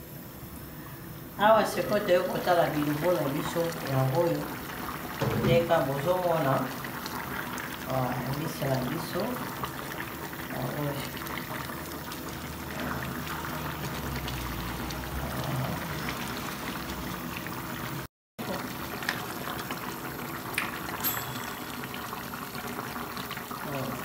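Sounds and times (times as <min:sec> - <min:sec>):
sauce bubbling in a pot: 0:01.5 - 0:24.0.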